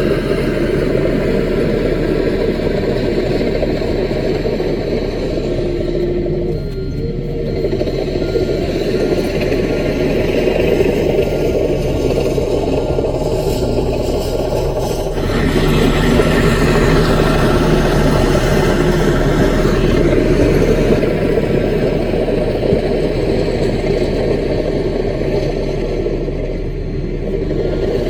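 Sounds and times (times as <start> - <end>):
mini bulldozer diesel engine: 0.0 - 28.0.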